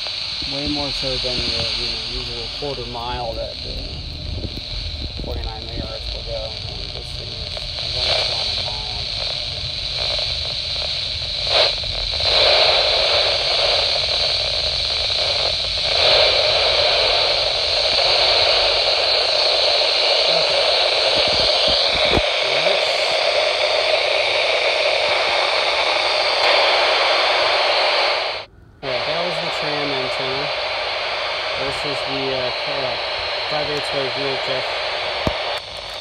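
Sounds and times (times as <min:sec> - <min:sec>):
low rumble: 0:00.0 - 0:36.0
radio static hissing: 0:00.0 - 0:36.0.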